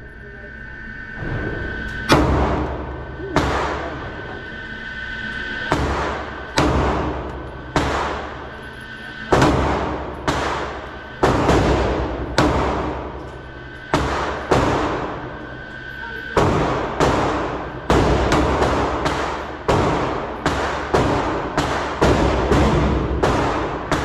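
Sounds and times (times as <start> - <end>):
pistol shots echoing indoors: 1.2 - 24.0.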